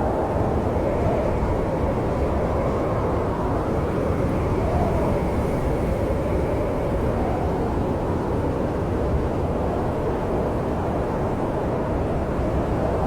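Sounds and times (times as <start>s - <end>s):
low rumbling snowstorm wind: 0.0s - 13.0s.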